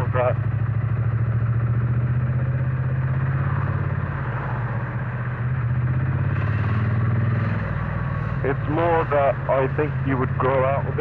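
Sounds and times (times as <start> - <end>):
motorcycle engine and exhaust: 0.0 - 11.0.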